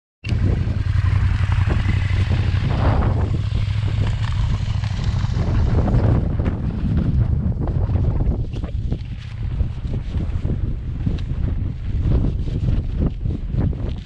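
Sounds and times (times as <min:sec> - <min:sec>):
motorcycle engine droning: 0:00.2 - 0:14.0
wind noise on microphone: 0:00.2 - 0:14.0.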